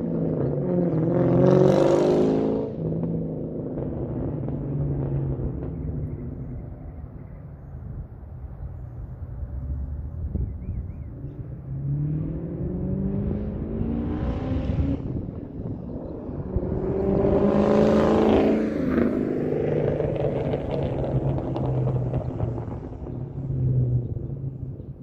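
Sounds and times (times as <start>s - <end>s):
car engine revving: 0.0s - 6.7s, 11.4s - 25.0s.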